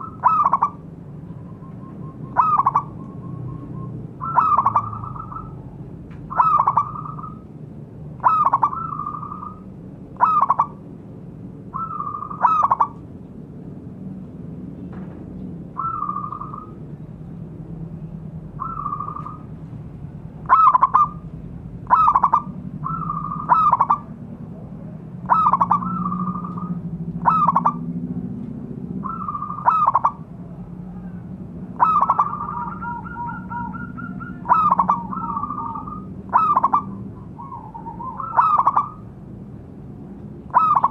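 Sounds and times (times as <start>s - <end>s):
doves cooing: 0.0s - 7.5s, 8.2s - 10.8s, 11.7s - 13.1s, 15.6s - 16.9s, 18.5s - 19.6s, 20.2s - 39.2s, 40.4s - 40.9s
low steady hum: 0.0s - 40.9s.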